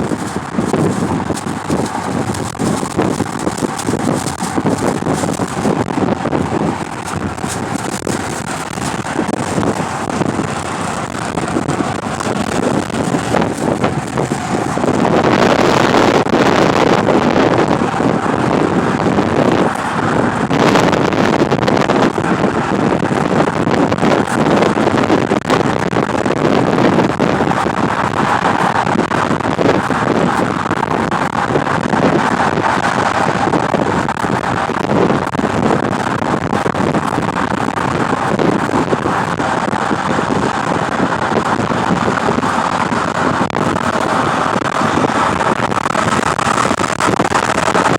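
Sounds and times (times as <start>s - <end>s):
car noise: 0.0s - 47.9s
wind on microphone: 0.0s - 47.9s.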